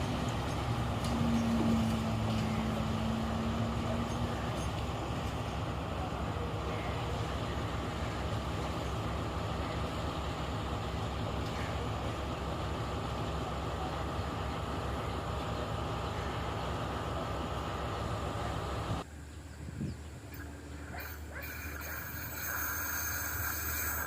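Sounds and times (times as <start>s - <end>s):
train diesel engine droning: 0.0s - 24.0s.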